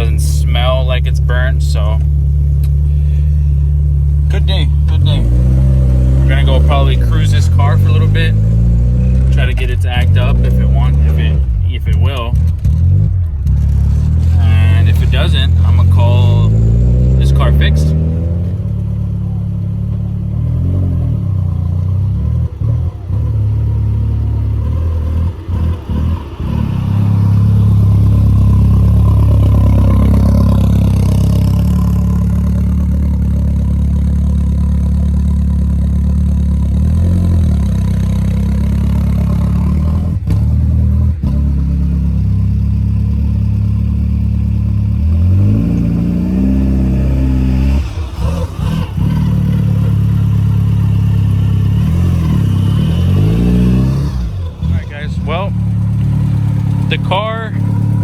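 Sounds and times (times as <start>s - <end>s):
car engine droning while driving: 0.0s - 58.0s.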